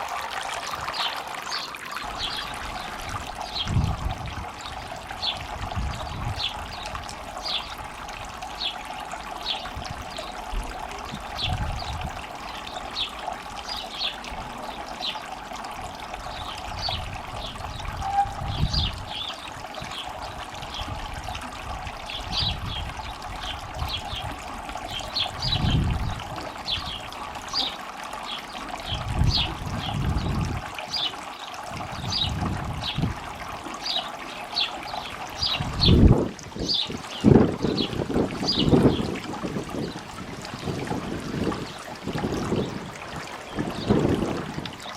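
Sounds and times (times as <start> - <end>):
water feature trickling: 0.0 - 44.9.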